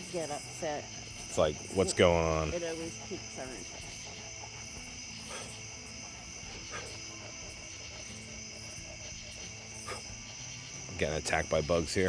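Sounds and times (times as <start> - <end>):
crickets and insects trilling: 0.0 - 12.0.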